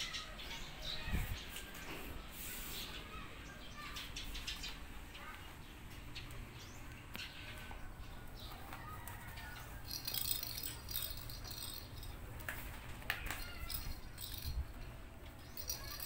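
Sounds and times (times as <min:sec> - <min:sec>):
birds chirping: 0:00.0 - 0:12.3, 0:13.3 - 0:16.0.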